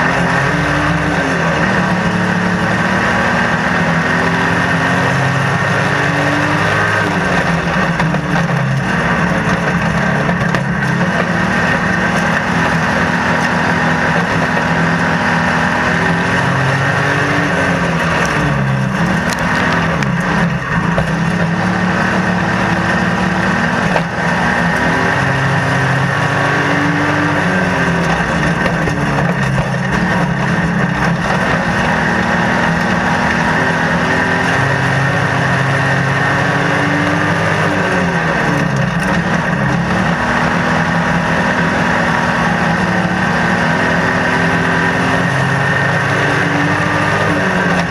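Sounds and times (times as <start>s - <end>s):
racing car engine revving: 0.0s - 47.9s.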